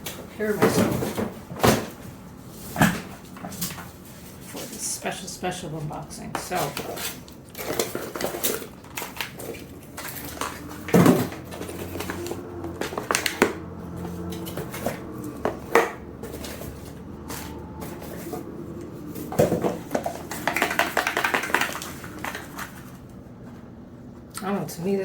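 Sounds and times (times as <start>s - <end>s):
small hard items clinking and knocking: 0.0s - 24.3s.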